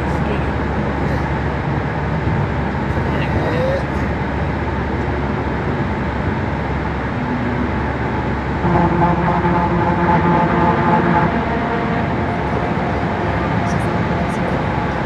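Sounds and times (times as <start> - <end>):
car road and engine noise: 0.0 - 15.0
steady hum: 0.0 - 15.0.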